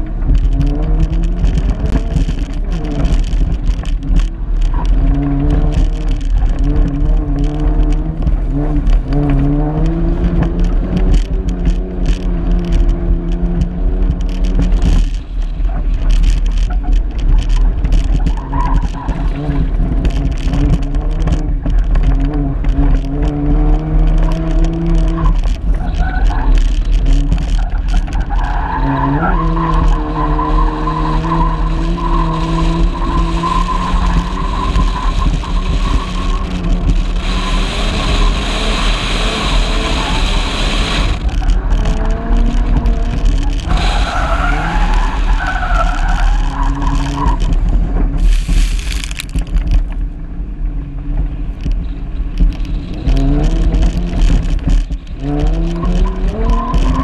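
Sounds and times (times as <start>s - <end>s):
gravel hissing under tyres: 0.0s - 50.1s, 51.6s - 57.0s
car engine revving: 0.0s - 57.0s
wind rumble on microphone: 0.0s - 57.0s.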